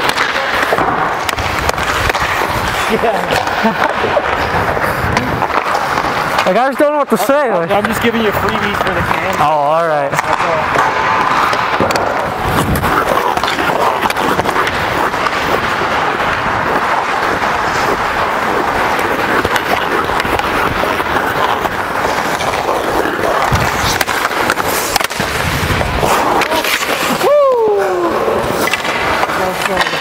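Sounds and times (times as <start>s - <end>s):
hockey stick clicking on puck: 0.0s - 7.0s, 7.6s - 9.5s, 10.1s - 27.3s, 28.3s - 30.0s
skate blades scraping ice: 0.0s - 30.0s.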